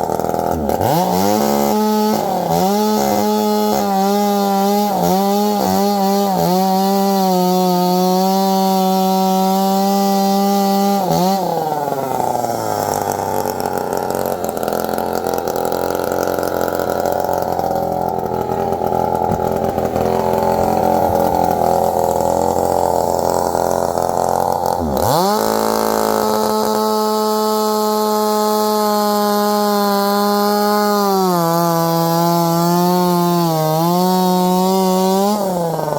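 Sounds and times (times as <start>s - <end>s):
chainsaw at full throttle: 0.0s - 35.9s
chainsaw grinding into metal rim: 0.0s - 35.9s.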